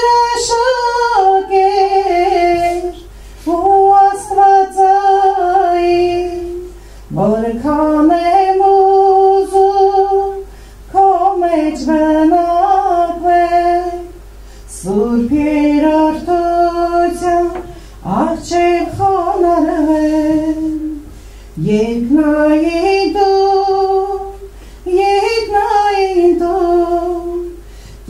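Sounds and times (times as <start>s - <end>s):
woman singing a hymn: 0.0s - 28.0s.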